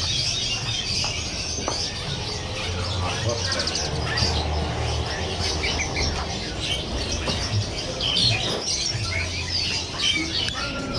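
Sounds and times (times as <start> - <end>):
caged songbirds chirping: 0.0 - 10.9.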